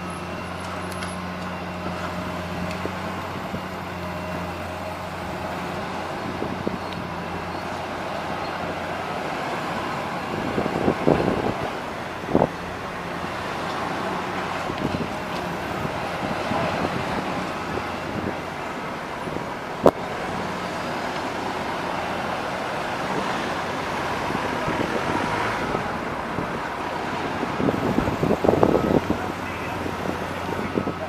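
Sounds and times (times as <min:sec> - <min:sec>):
outdoor traffic noise: 0:00.0 - 0:31.0.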